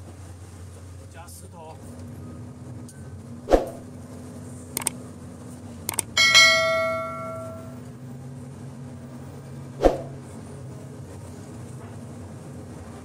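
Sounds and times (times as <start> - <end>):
low machine hum: 1.8 - 13.0.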